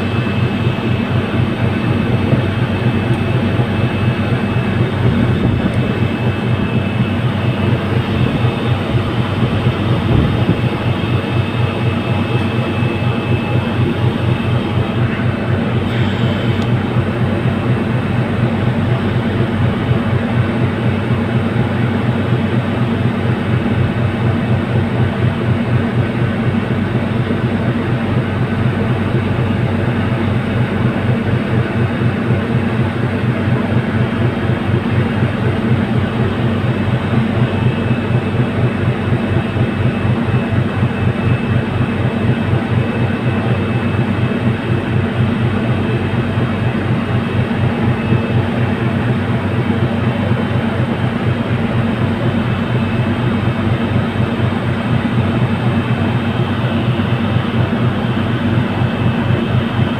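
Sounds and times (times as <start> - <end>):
ferry engines droning: 0.0 - 59.9.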